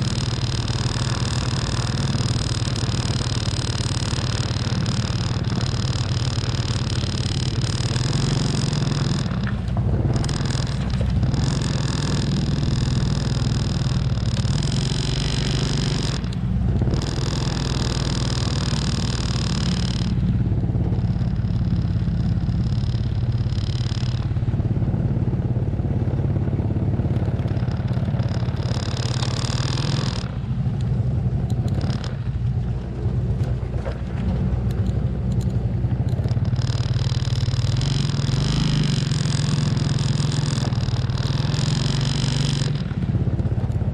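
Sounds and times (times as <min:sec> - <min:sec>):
truck engine droning: 0:00.0 - 0:43.9.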